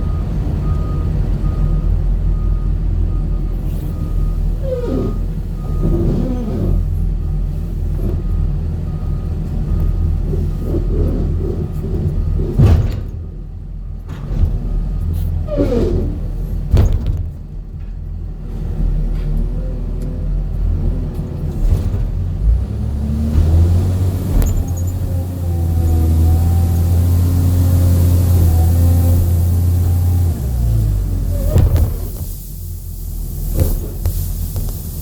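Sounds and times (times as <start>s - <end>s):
motor vehicle rumbling: 0.0s - 35.0s.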